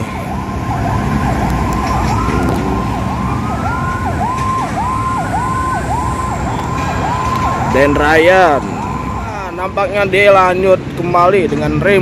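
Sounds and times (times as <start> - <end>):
electronic siren yelping: 0.0 - 9.7
road traffic: 0.0 - 12.0.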